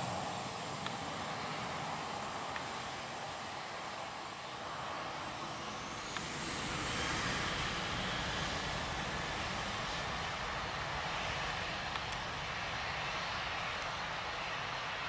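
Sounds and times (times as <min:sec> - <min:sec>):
jet engines passing: 0:00.0 - 0:15.0.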